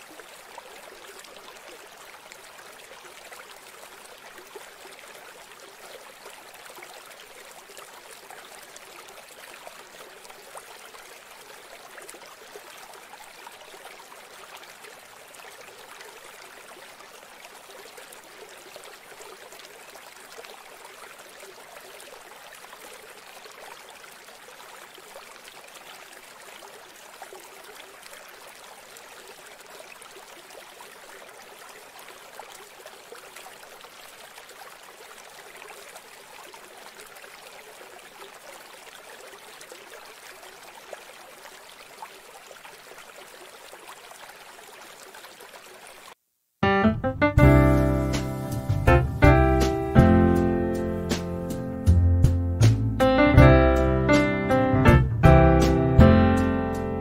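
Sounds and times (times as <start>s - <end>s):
running water trickling: 0.0s - 46.2s.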